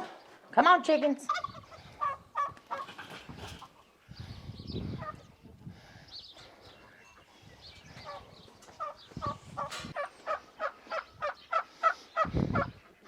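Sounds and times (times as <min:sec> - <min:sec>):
poultry calling: 0:01.1 - 0:13.0.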